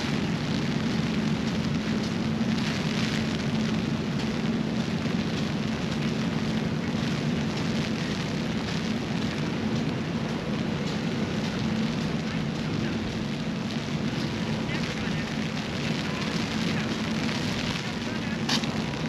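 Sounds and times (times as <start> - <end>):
low steady drone: 0.0 - 19.0
steady rain: 0.0 - 19.0.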